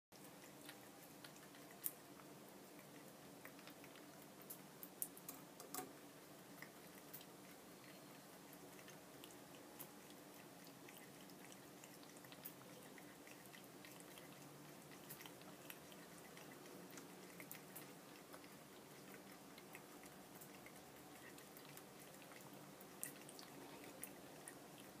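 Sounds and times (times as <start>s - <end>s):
cat lapping water: 0.2s - 25.0s.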